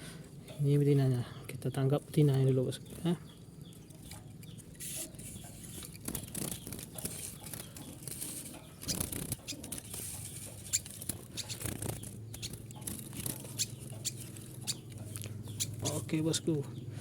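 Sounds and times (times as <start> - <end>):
rustling and scuffling in birdcage: 2.1 - 16.2.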